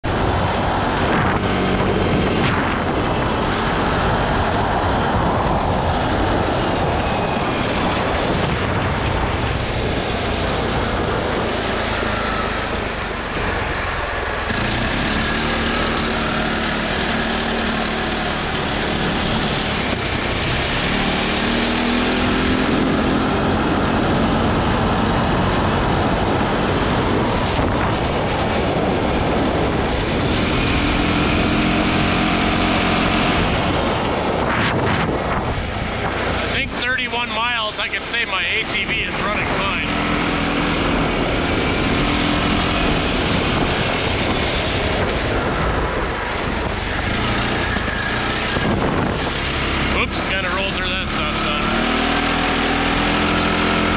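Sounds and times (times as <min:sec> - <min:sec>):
wind rushing: 0:00.0 - 0:16.3, 0:18.4 - 0:51.3
quad engine running: 0:00.0 - 0:53.9.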